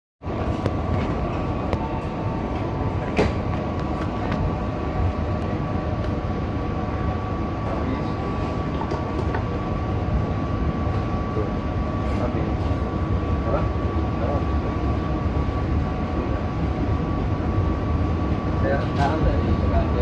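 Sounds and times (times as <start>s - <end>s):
train carriage rumble: 0.2s - 20.0s.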